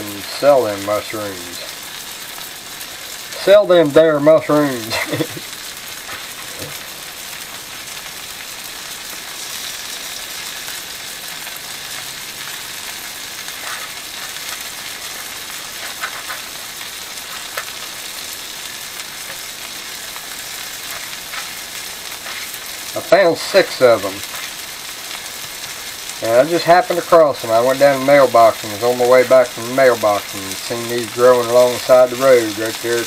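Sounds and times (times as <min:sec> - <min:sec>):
mushrooms sizzling in butter: 0:00.0 - 0:33.0.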